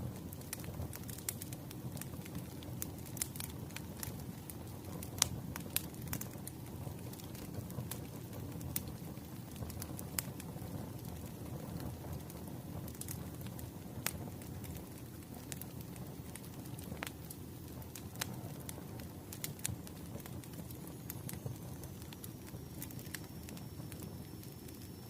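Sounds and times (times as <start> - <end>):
fire rumbling: 0.0 - 25.0
logs crackling and popping: 0.0 - 25.0.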